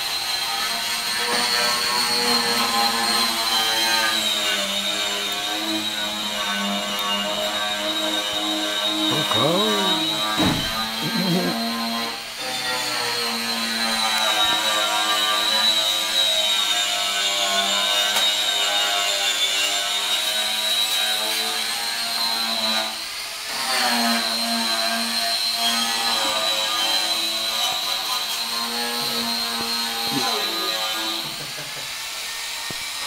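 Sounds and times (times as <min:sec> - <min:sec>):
electric grinder whining: 0:00.0 - 0:33.0.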